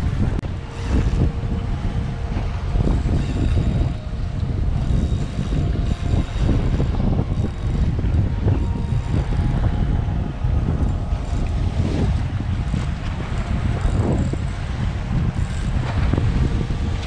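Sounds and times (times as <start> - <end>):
choppy sea water: 0.0 - 17.0
wind buffeting microphone: 0.0 - 17.0.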